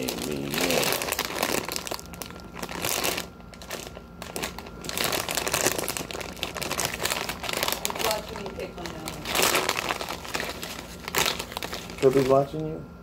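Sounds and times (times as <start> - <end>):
plastic chip bag crinkling: 0.0 - 12.8.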